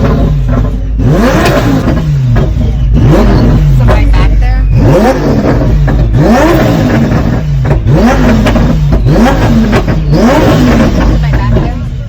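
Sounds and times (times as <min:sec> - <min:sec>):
car engine revving: 0:00.0 - 0:12.0
low exhaust rumble: 0:00.0 - 0:12.0.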